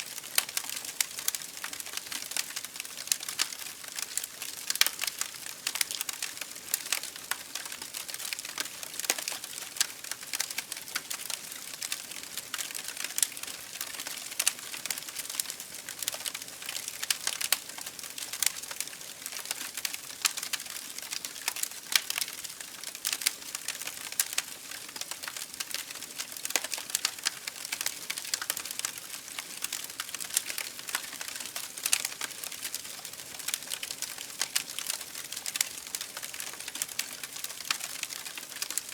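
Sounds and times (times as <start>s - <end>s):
campfire crackling and popping: 0.1s - 38.9s.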